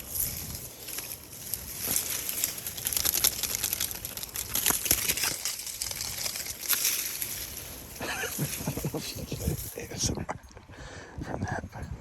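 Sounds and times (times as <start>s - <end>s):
tree branches rustling: 0.0s - 10.2s.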